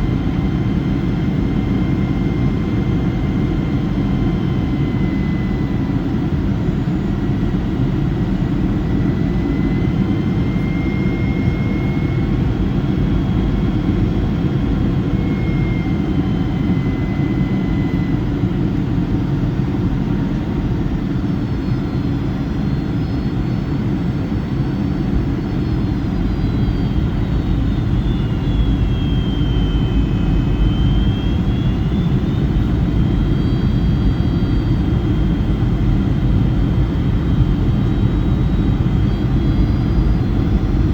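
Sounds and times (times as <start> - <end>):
jet engines heard from cabin: 0.0 - 40.9.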